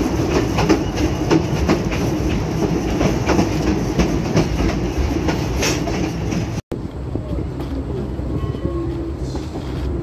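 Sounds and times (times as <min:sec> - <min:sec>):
train rumble: 0:00.0 - 0:10.0
train wheels clicking over rail joints: 0:00.0 - 0:10.0.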